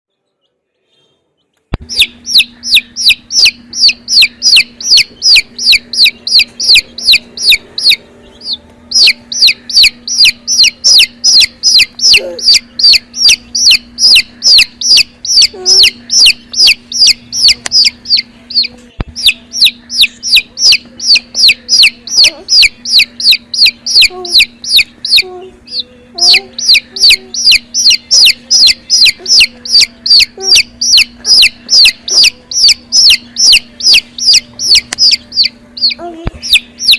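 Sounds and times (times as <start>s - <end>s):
chick peeping: 0.1s - 36.9s
faint steady hum: 0.2s - 36.9s.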